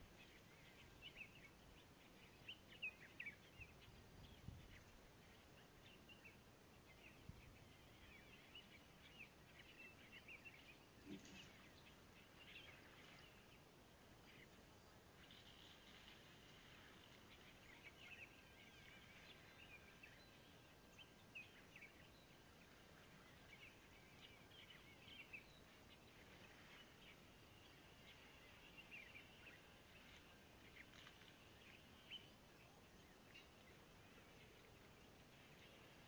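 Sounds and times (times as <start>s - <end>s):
low steady hiss: 0.0s - 36.0s
small birds chirping: 0.0s - 36.0s.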